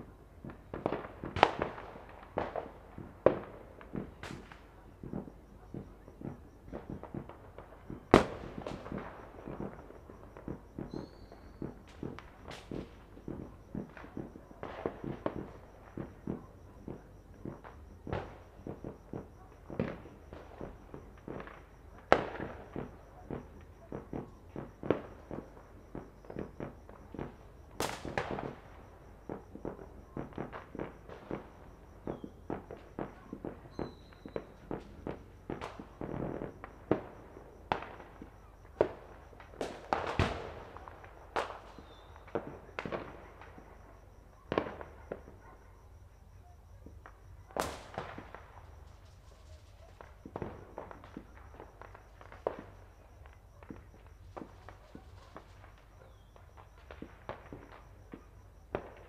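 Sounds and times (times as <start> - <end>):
fireworks bangs and cracks: 0.4 - 43.7, 46.8 - 55.9.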